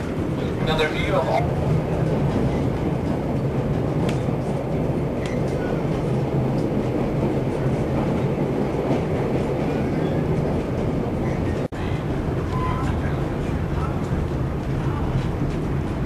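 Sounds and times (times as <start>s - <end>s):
train car rolling on rails: 0.0s - 16.0s.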